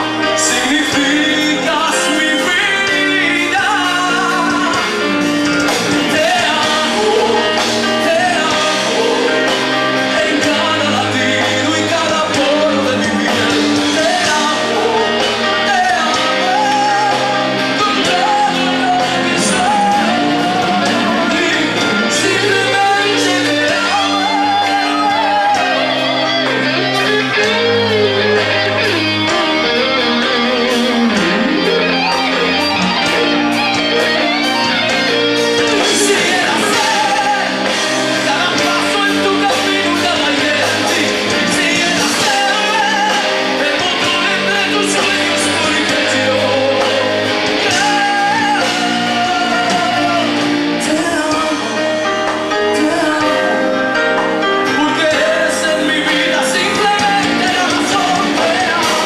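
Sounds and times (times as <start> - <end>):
hard rock band playing: 0.0 - 59.0
man singing lead vocals: 0.0 - 59.0.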